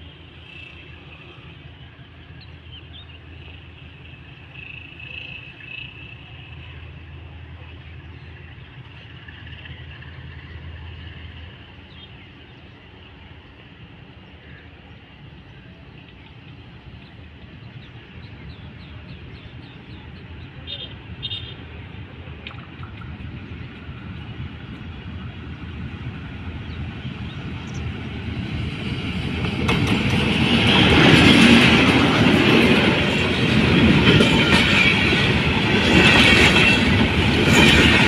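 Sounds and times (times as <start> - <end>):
locomotive rumble: 0.0 - 38.0.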